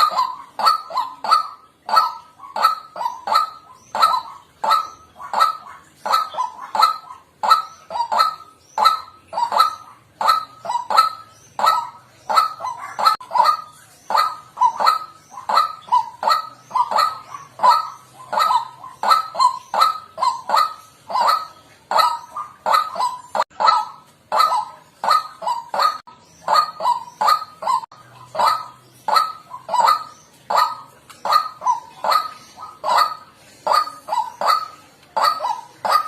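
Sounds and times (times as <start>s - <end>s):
waterhen honking calls: 0.0s - 36.0s.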